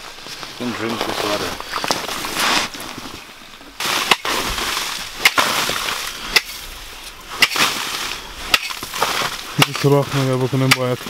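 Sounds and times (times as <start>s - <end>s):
rough crunching: 0.0s - 11.0s.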